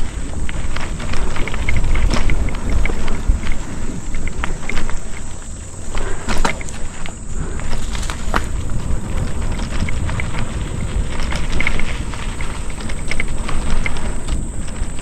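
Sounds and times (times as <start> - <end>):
bike rattling over bumps: 0.0 - 15.0
bike tyres rolling on dirt: 0.0 - 15.0
wind buffeting microphone: 0.0 - 15.0.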